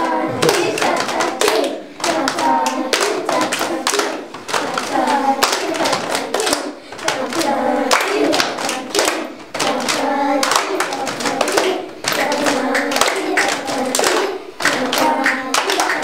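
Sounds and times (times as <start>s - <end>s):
children clapping in rhythm: 0.0s - 16.0s
children singing: 0.0s - 16.0s.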